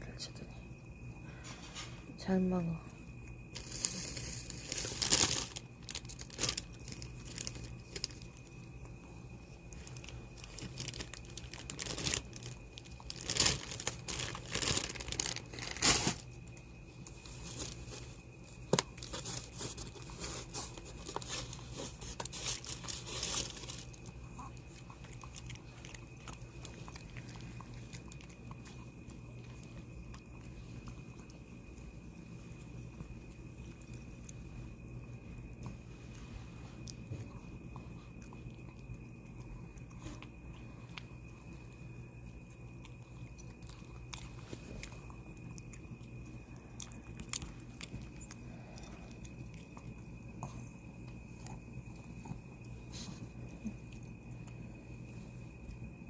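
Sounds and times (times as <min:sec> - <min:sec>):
dog chewing and crunching food: 0:03.2 - 0:56.0.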